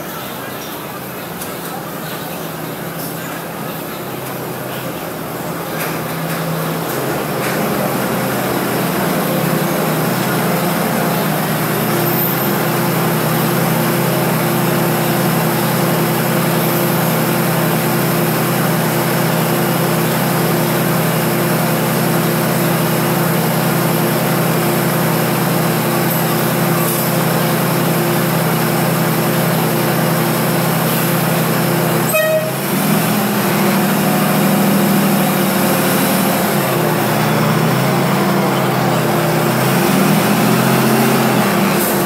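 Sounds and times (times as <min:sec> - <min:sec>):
diesel train engine running: 0:00.0 - 0:42.0.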